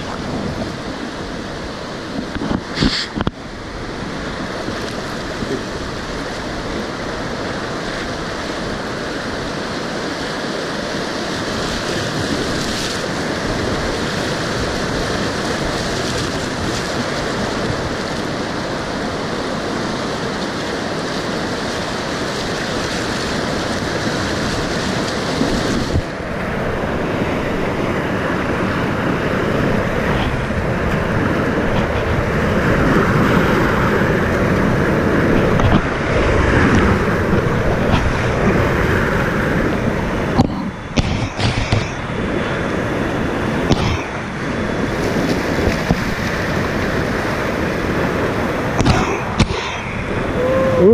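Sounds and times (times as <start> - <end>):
whitewater rapids rushing: 0.0 - 50.9.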